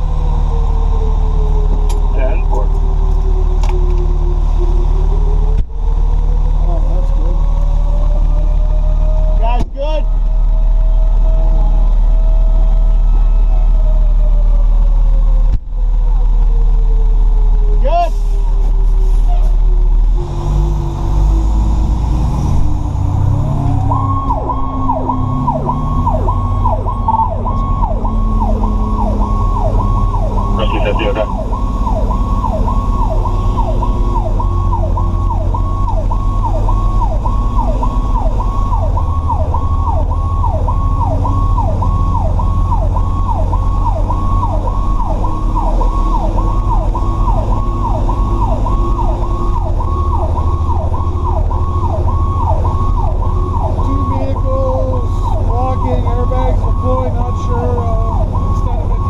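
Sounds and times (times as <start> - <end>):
fire truck siren wailing: 0.0 - 59.0
truck engine drone: 0.0 - 59.0.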